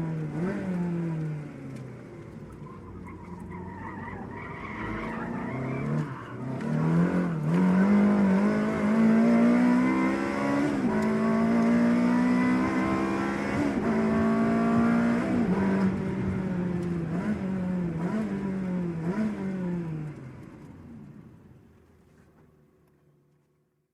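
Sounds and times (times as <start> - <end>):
car engine revving while driving: 0.0 - 20.4.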